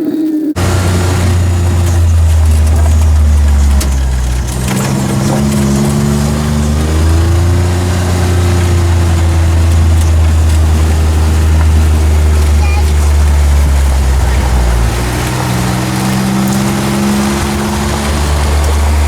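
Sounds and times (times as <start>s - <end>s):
utility vehicle engine running: 0.6s - 19.0s.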